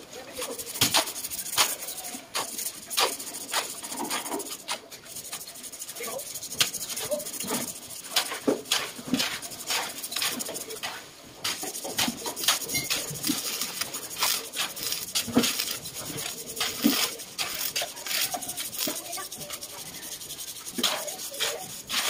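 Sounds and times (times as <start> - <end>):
scraping and light clinking: 0.4 - 22.0.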